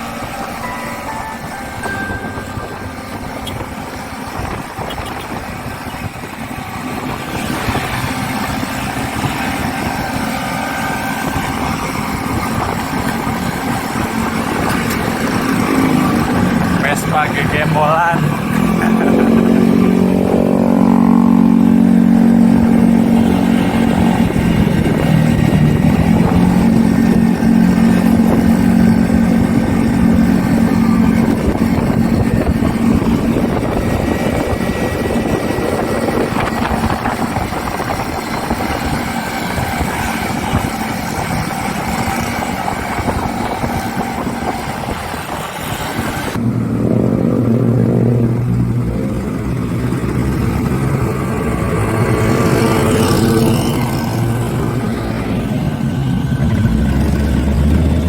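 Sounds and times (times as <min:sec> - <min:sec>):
scooter two-stroke engine running: 0:00.0 - 0:58.0.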